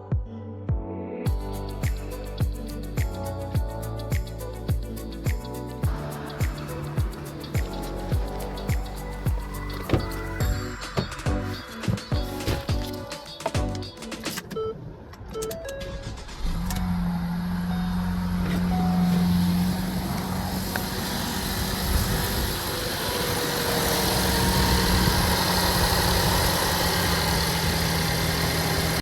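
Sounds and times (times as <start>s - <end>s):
car engine starting and running: 1.3s - 13.0s, 13.8s - 29.0s.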